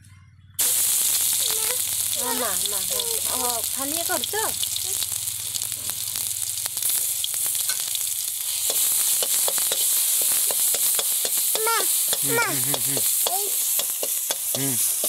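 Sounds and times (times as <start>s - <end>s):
oil sizzling in a wok: 0.6s - 15.0s.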